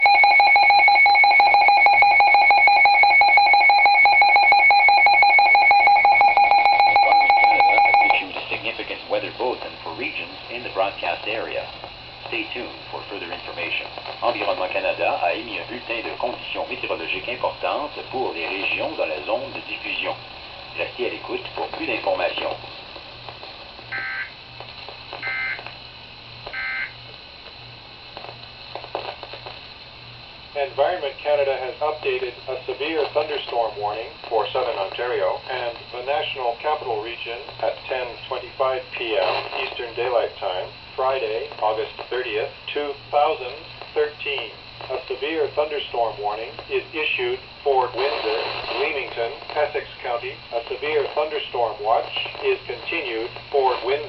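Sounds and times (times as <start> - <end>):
steady low hum: 0.0 - 54.0
radio channel hissing: 1.6 - 54.0.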